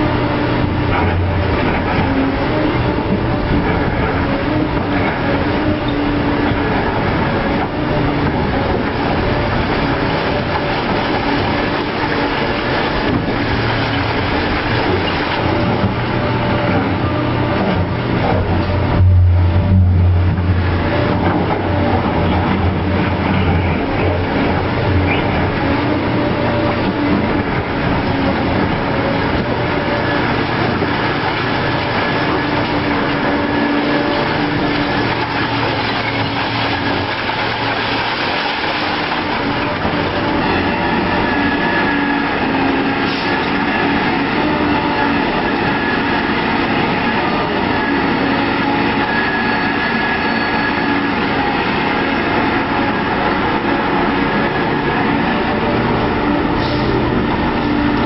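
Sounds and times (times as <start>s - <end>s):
diesel construction machinery running: 0.0s - 58.0s.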